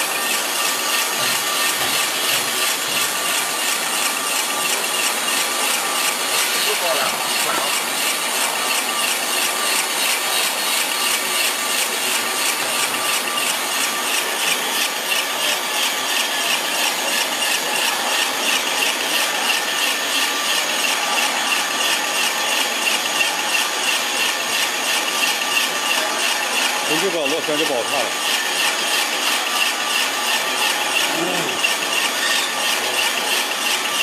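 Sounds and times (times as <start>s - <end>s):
snack extruder running: 0.0s - 34.0s.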